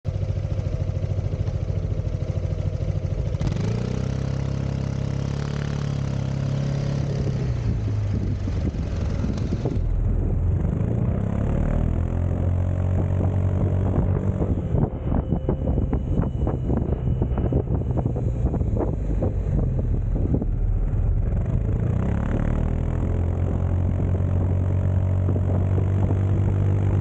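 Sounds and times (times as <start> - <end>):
scooter engine idling and revving: 0.1 - 27.0.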